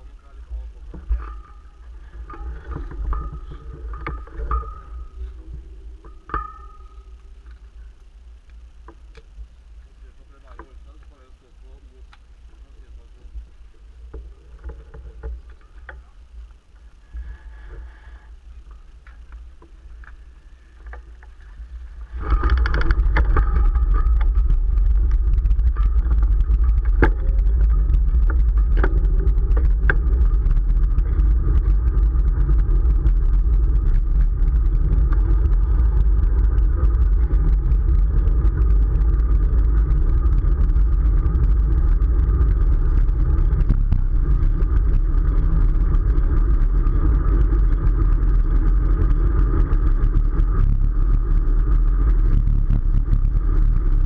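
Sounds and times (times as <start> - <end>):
wind and road rumble: 0.0 - 54.0.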